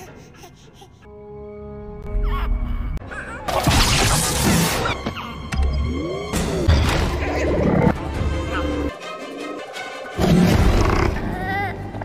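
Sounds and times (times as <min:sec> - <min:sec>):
film score music with deep low notes: 0:00.0 - 0:12.0.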